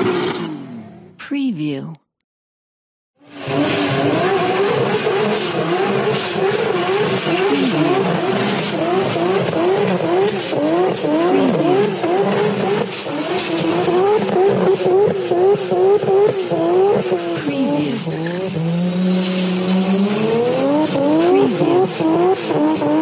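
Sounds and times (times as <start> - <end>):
racing car engines accelerating: 3.2 - 23.0.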